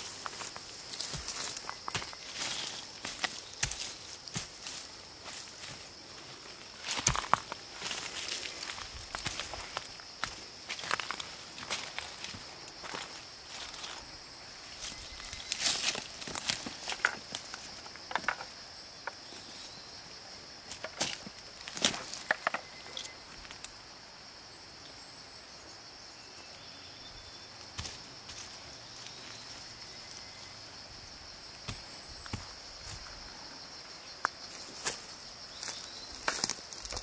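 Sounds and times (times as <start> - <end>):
insect chorus drone: 0.0 - 37.0.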